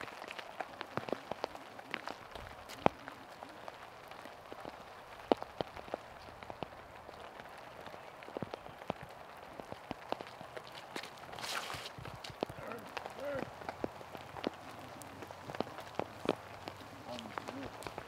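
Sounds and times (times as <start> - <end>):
faint outdoor ambience: 0.0 - 18.0.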